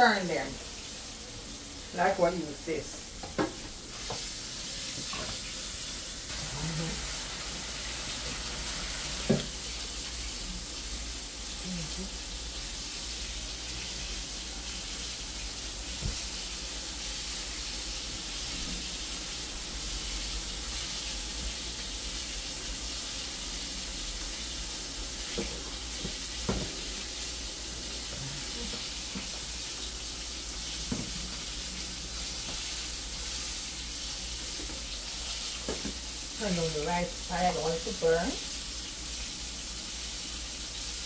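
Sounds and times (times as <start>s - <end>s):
fish sizzling in oil: 0.0s - 41.0s.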